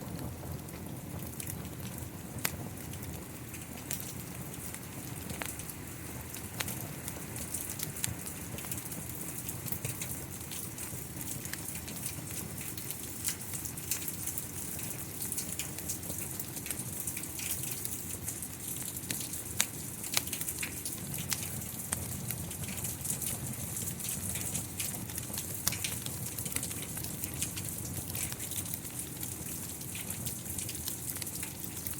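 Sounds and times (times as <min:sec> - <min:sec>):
steady rain: 0:00.0 - 0:31.9
wood fire crackling and popping: 0:00.0 - 0:31.9.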